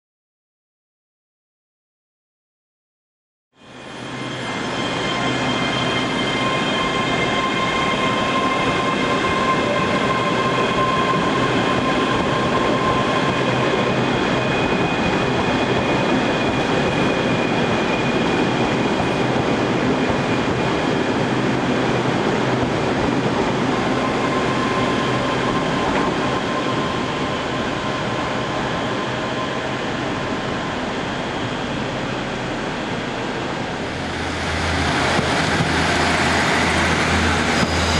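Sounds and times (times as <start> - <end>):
train wheels on track: 3.7 - 37.9.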